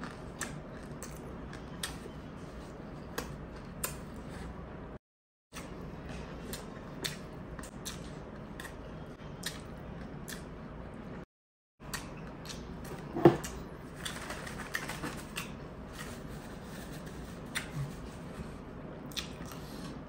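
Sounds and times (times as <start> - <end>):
chewing food with crisp crackles: 0.0 - 4.6, 5.5 - 20.0.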